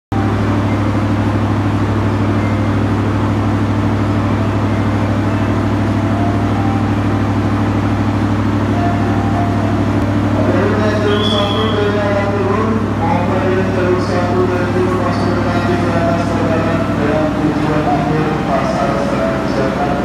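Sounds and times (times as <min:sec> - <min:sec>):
train diesel engine drone: 0:00.1 - 0:20.0.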